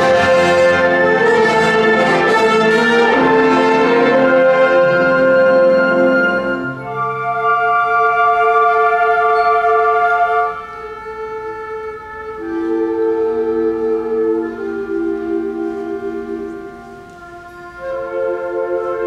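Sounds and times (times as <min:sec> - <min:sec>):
wind band playing held chords: 0:00.0 - 0:19.0.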